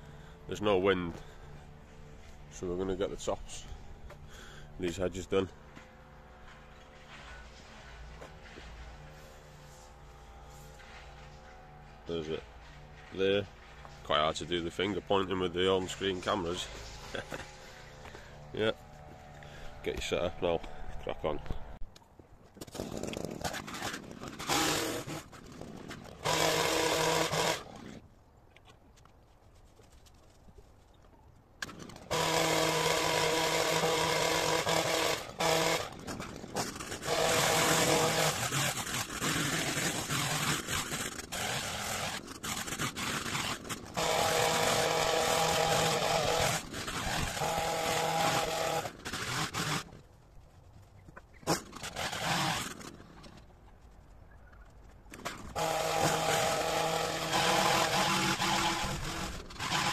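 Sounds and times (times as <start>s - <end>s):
hedge trimmer motor revving: 0.0s - 21.8s, 22.7s - 28.0s, 31.6s - 50.0s, 51.4s - 53.4s, 55.1s - 59.9s.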